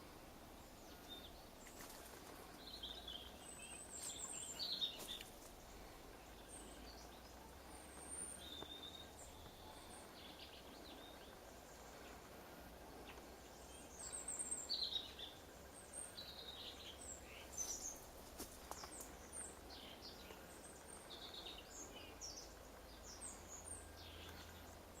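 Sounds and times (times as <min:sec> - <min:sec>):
background hiss: 0:00.0 - 0:25.0
robin singing: 0:00.0 - 0:25.0.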